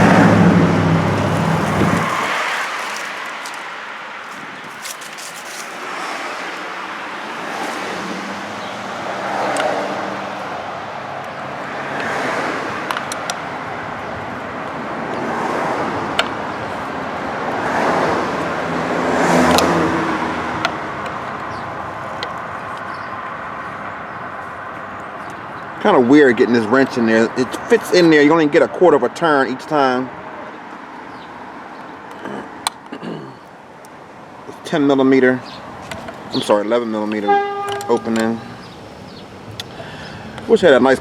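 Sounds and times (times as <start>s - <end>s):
cars and buses passing: 0.0s - 41.0s.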